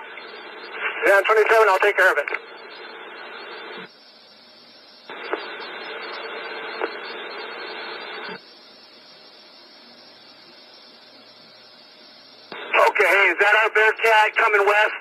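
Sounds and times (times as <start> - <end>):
radio transmission hiss: 0.0 - 15.0
steady channel hiss: 0.0 - 15.0.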